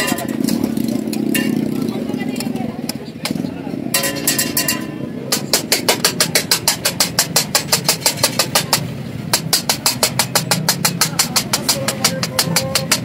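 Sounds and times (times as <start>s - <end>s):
metal spatula striking griddle: 0.0s - 1.8s, 3.9s - 13.0s.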